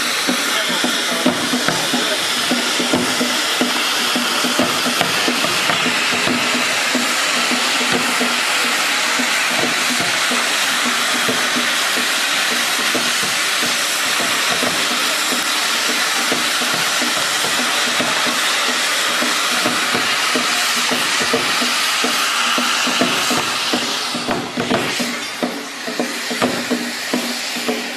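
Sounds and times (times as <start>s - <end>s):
firework fountain hissing: 0.0s - 27.9s.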